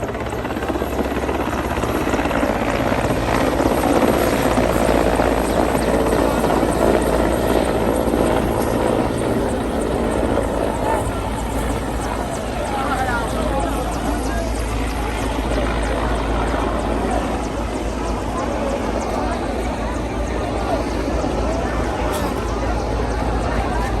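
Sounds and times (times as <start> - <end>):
helicopter rotor beat: 0.0 - 24.0.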